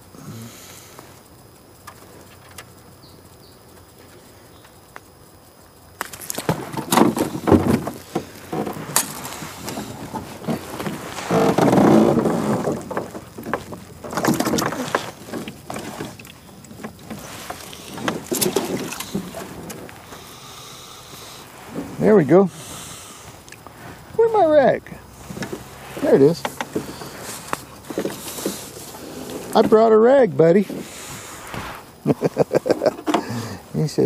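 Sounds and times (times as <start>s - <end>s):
rough rustling: 5.1s - 33.9s.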